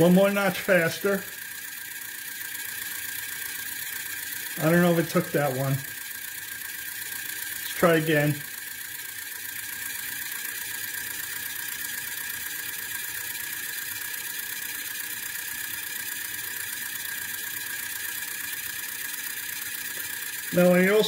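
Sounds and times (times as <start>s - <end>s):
small motor whining: 0.0s - 21.0s.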